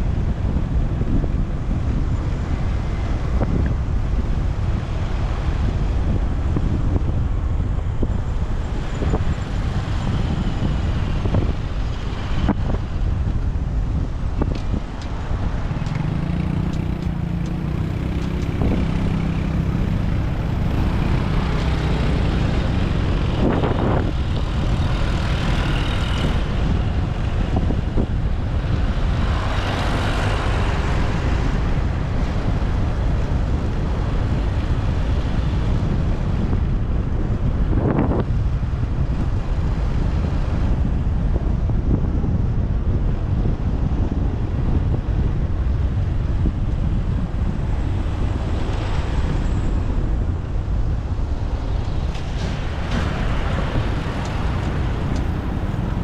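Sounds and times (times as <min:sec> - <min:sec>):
motorcycle engine and road rumble: 0:00.0 - 0:56.0
traffic passing: 0:00.0 - 0:56.0
wind buffeting microphone: 0:00.0 - 0:56.0.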